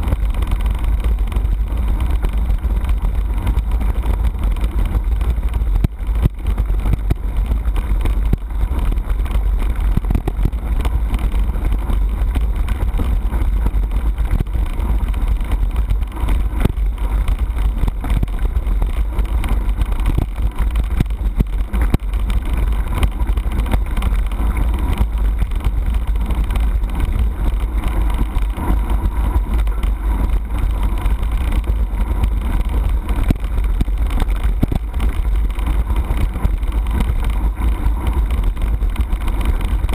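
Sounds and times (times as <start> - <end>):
bike rattles and knocks: 0.0 - 39.9
tyres on gravel: 0.0 - 39.9
wind buffeting microphone: 0.0 - 39.9.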